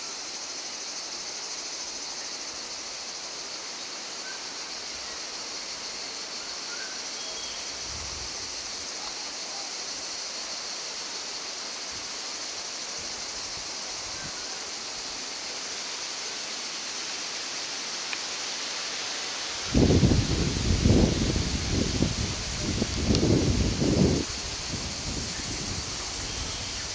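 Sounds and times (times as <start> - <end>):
high insect chorus: 0.0 - 26.9
rushing hiss: 0.0 - 26.9.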